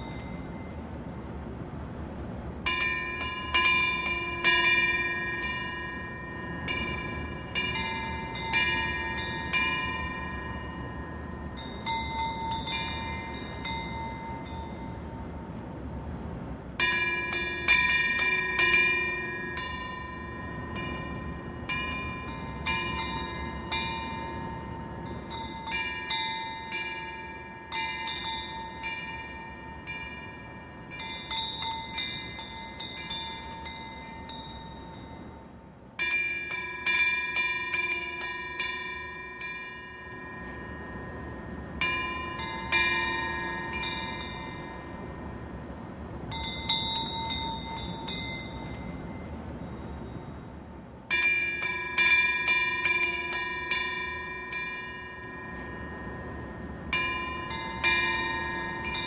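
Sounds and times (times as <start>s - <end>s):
wind bells ringing: 0.0s - 1.5s, 2.5s - 59.0s
low steady rush: 0.0s - 59.0s.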